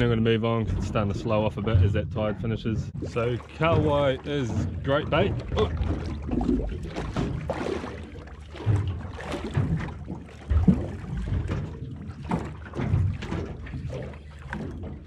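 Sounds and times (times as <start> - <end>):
water knocking against boat hull: 0.0 - 15.0.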